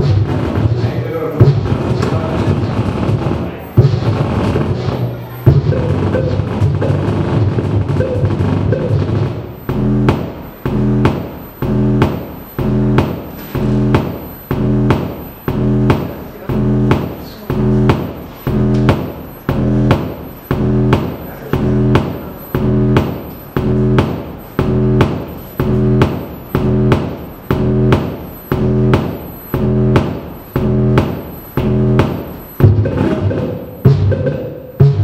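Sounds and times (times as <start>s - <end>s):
looping low electronic pulse: 0.0s - 35.0s.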